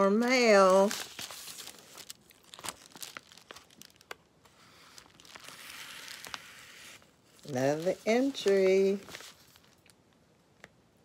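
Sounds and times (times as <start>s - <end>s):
paper envelope crinkling and rustling: 0.0s - 10.2s.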